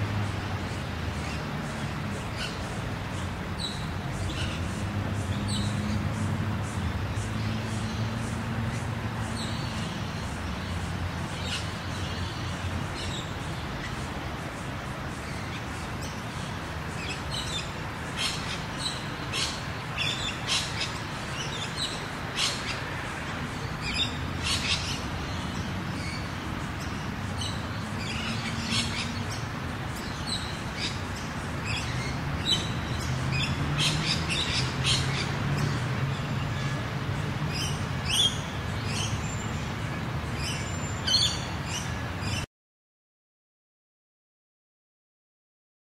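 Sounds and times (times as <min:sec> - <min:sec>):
distant car engines hum: 0:00.0 - 0:42.4
birds chirping: 0:00.0 - 0:42.5.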